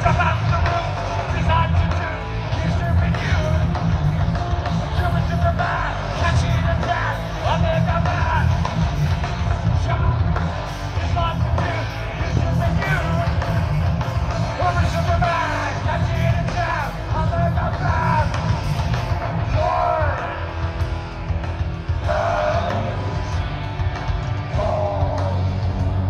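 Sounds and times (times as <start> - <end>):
punk band playing live: 0.0 - 26.0
yelled vocals: 0.0 - 26.0.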